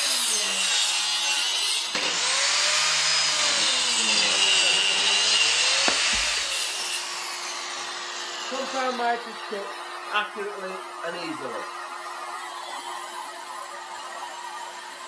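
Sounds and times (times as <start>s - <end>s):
circular saw cutting wood: 0.0s - 15.0s.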